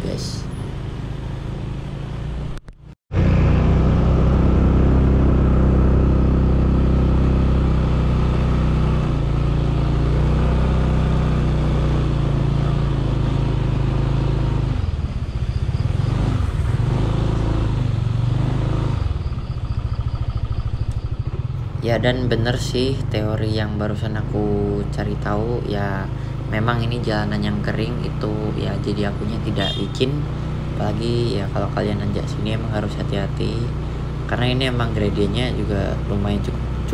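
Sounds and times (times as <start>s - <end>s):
vehicle engine running under load: 0.0s - 36.9s.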